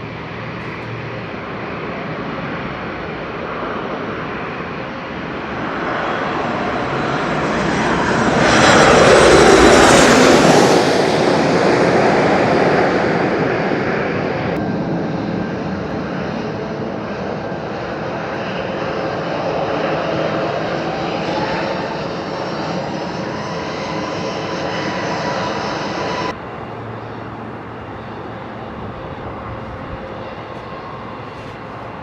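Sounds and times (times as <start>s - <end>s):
airplane passing: 0.0s - 32.0s.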